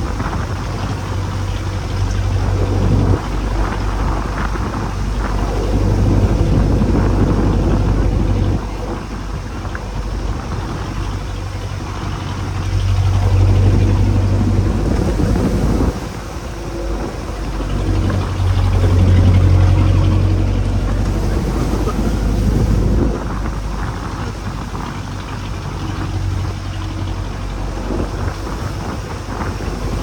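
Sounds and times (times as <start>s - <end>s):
boat engine humming: 0.0s - 30.0s
water wash: 0.0s - 30.0s
wind noise: 0.0s - 30.0s.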